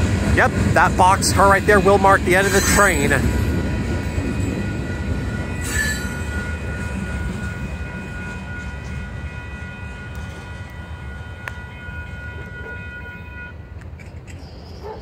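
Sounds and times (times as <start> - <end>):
freight train rumbling: 0.0 - 15.0
crossing signal bell ringing: 1.0 - 13.8.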